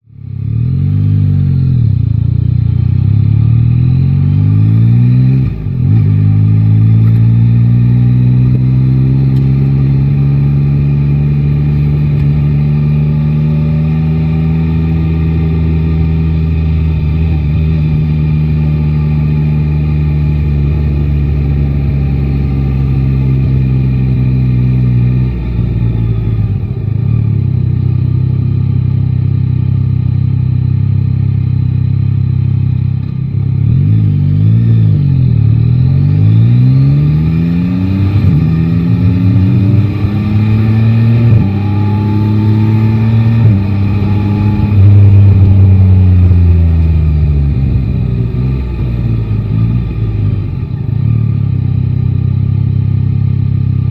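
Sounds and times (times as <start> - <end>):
motorcycle engine revving: 0.2 - 53.9.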